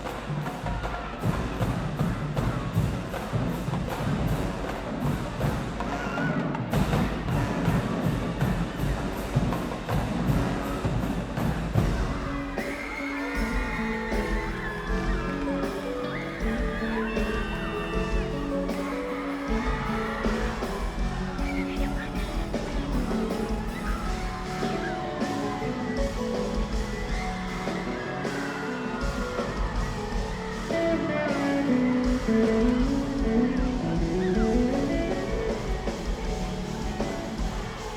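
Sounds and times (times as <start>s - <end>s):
marching drumline beat: 0.0s - 37.9s
brass section chords: 5.8s - 9.0s, 10.2s - 37.9s.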